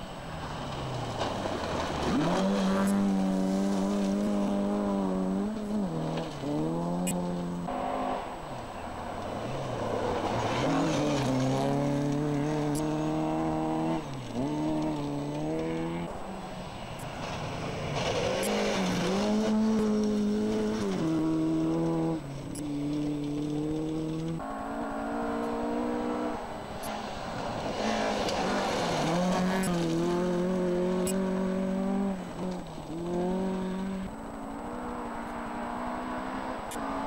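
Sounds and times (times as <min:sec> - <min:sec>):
rally car engines at high revs: 0:00.0 - 0:37.0.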